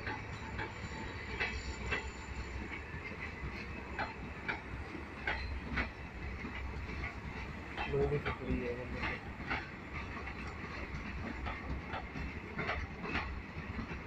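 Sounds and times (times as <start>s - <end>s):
train rumbling past: 0.0s - 14.0s
wheels clacking on rail joints: 0.0s - 14.0s.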